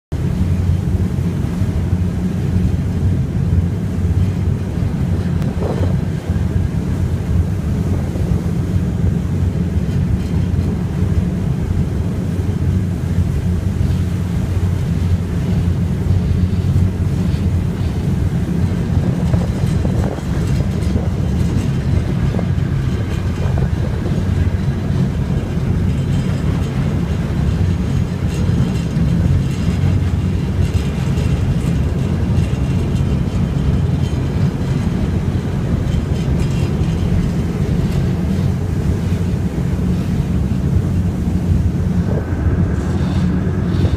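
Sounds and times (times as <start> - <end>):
low engine rumble: 0.1 - 43.9
wind on microphone: 0.2 - 43.9.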